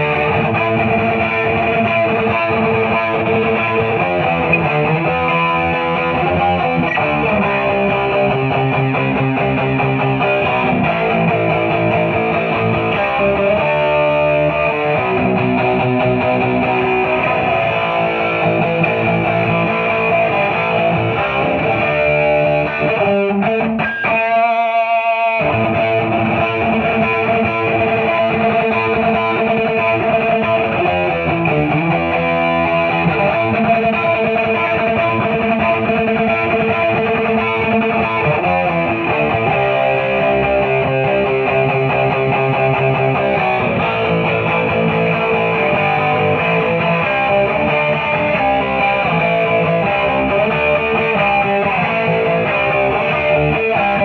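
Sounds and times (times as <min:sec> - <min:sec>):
distorted electric guitar: 0:00.0 - 0:54.0
high guitar note with vibrato: 0:00.0 - 0:54.0.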